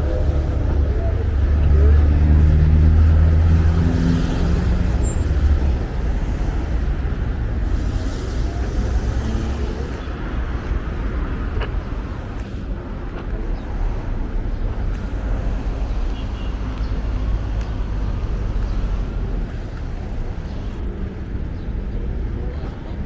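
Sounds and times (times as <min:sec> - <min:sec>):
passing cars rumbling: 0:00.0 - 0:23.0.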